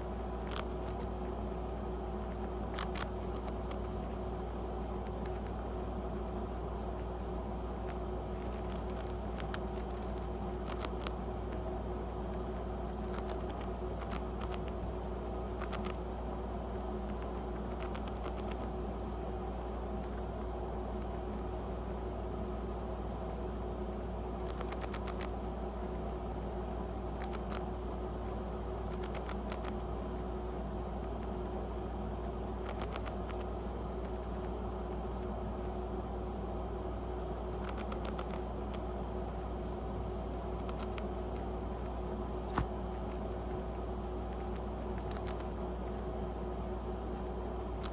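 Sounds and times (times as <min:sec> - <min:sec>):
low background hum: 0:00.0 - 0:47.9
rat crunching a cracker: 0:00.0 - 0:47.9.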